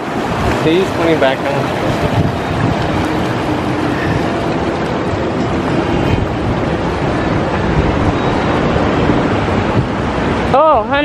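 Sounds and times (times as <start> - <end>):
sea surf washing among rocks: 0.0 - 11.0
wind rumble on microphone: 0.0 - 11.0.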